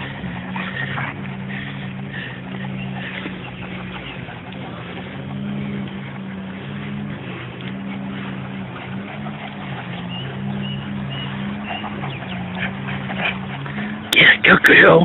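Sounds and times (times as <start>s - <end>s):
dogs growling: 0.0s - 15.0s.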